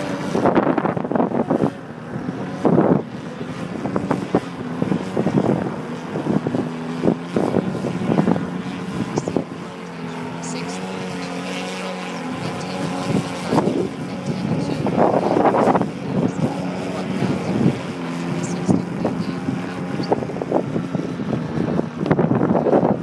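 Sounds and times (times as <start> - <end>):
model plane motor and propeller drone: 0.0 - 23.0
wind buffeting microphone: 0.0 - 23.0.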